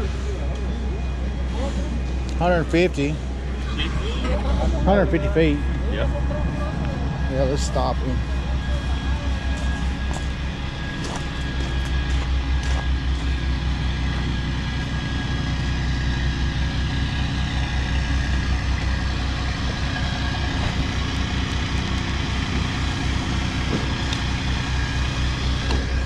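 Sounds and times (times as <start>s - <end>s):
diesel engine droning: 0.0s - 26.0s
thin steady whine: 0.0s - 26.0s.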